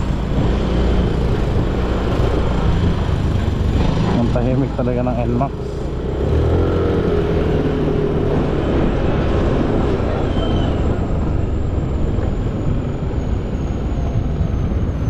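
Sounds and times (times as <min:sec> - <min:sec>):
road noise: 0:00.0 - 0:15.0
vehicle engines running: 0:00.0 - 0:15.0.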